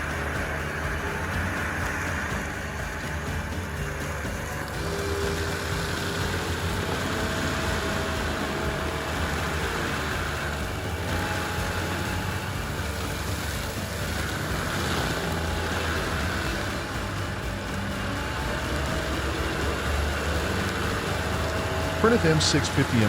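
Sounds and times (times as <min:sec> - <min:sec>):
heavy machine engine rumbling: 0:00.0 - 0:23.0.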